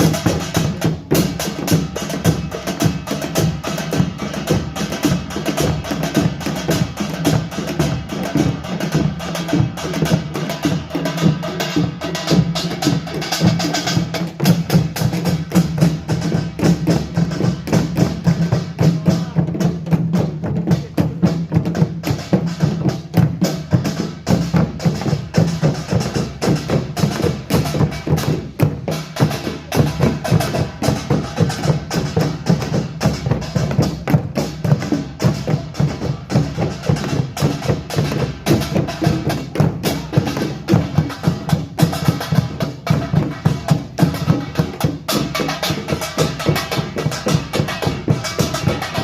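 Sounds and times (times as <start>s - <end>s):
percussion ensemble playing: 0.0s - 49.0s.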